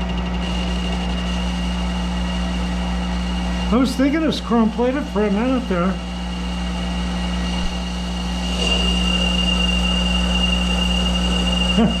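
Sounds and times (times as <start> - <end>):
high-pitched cutting whine: 0.0 - 12.0
lathe humming: 0.0 - 12.0.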